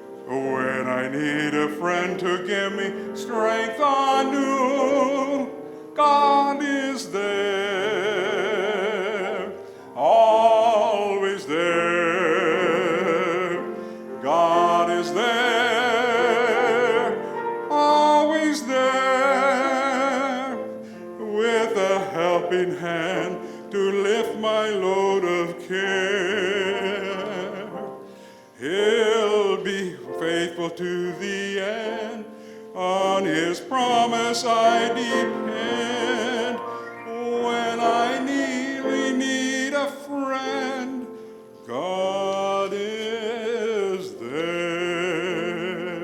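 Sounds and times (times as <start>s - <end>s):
person singing sacred song: 0.2s - 27.9s, 28.6s - 41.1s.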